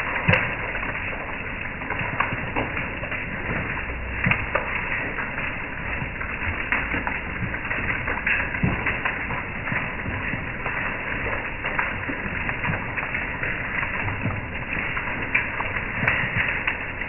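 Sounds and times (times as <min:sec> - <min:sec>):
hail and rain on wooden deck: 0:00.0 - 0:17.0.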